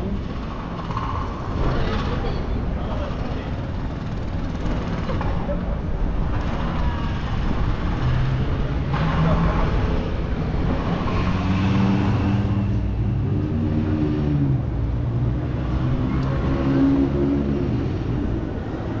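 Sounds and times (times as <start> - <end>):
city street noise: 0.0 - 19.0.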